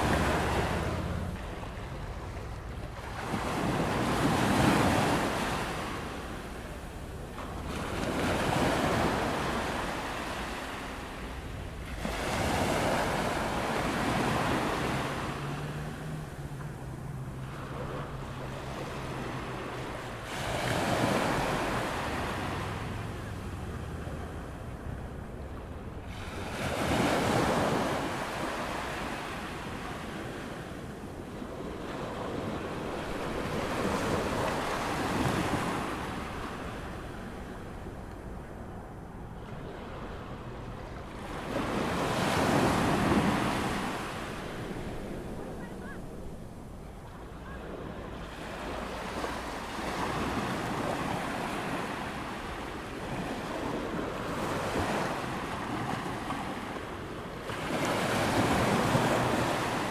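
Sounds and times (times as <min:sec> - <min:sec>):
ocean waves breaking on sand: 0:00.0 - 0:59.9.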